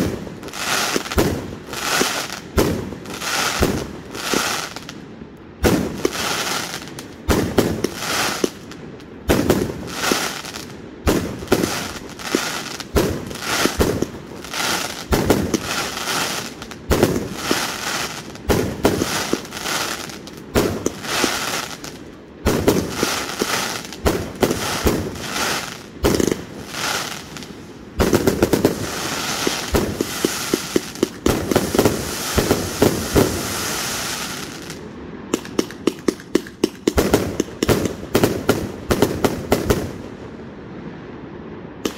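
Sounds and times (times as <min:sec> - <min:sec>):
firework shots: 0:00.0 - 0:04.9, 0:05.6 - 0:40.1
firework crackling: 0:00.0 - 0:05.0, 0:05.6 - 0:40.2.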